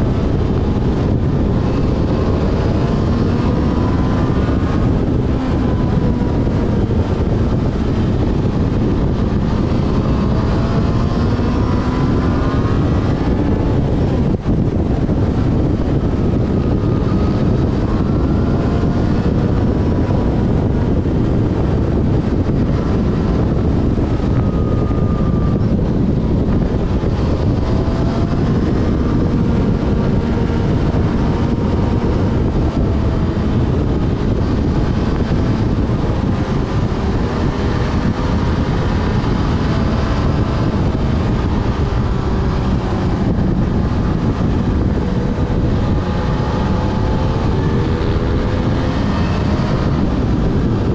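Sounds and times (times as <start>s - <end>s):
motorcycle engine running: 0.0s - 50.9s
wind rumble on microphone: 0.0s - 50.9s.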